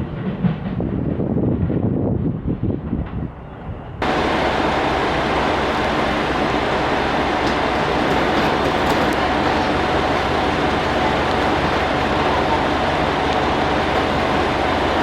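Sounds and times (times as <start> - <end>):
diesel railcar engine rumbling: 0.0 - 15.0.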